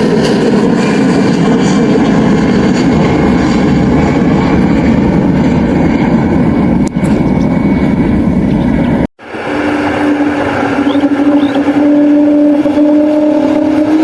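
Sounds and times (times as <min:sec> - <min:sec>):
airliner engines passing: 0:00.0 - 0:14.0.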